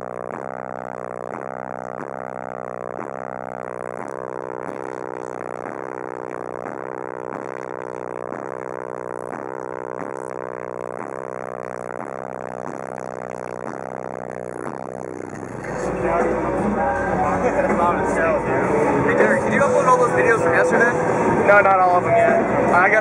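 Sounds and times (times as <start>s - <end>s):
deep pulsing bass music: 0.0s - 23.0s.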